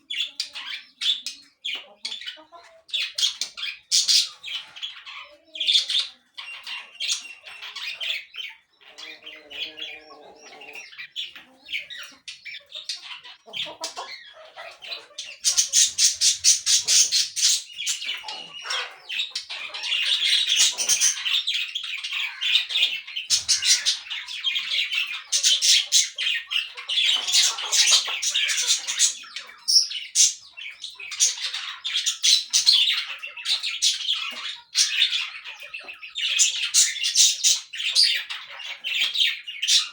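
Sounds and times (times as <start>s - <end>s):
parakeets chirping and squawking: 0.0s - 39.9s.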